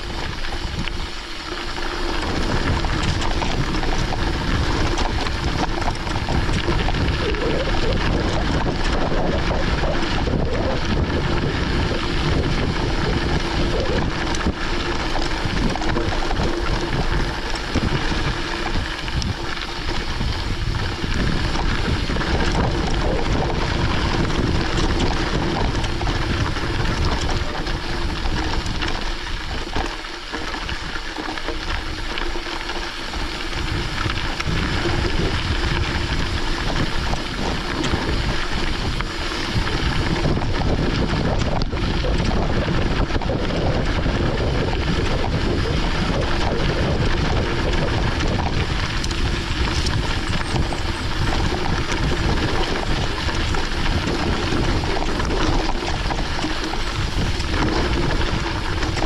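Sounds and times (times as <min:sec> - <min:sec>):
bike tyres rolling on dirt road: 0:00.0 - 0:59.0
wind on microphone: 0:00.0 - 0:59.0.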